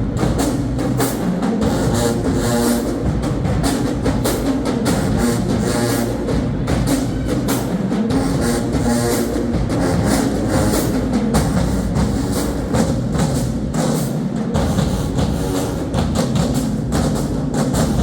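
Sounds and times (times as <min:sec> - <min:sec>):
drums beating steady rhythm: 0:00.0 - 0:18.0
marching band playing: 0:00.0 - 0:18.0.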